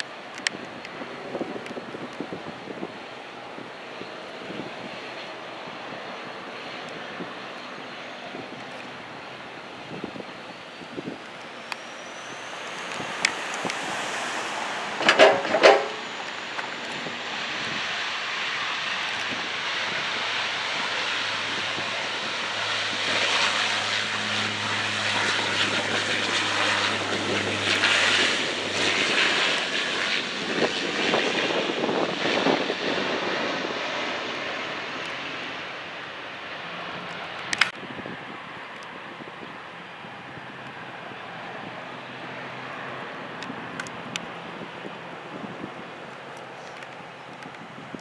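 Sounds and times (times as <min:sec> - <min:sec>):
airplane engine passing: 0:00.0 - 0:48.0.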